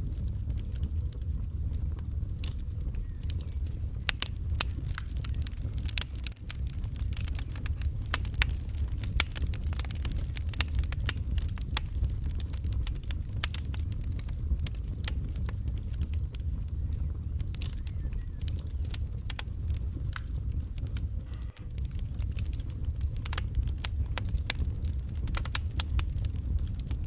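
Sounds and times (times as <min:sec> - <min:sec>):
low rumble of flame: 0:00.0 - 0:27.0
wood fire crackling and popping: 0:00.0 - 0:27.0.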